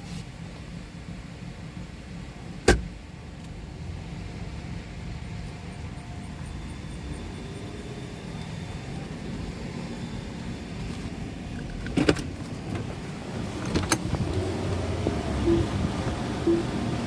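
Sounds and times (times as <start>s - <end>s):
car wash machinery rumbling: 0.0s - 17.0s.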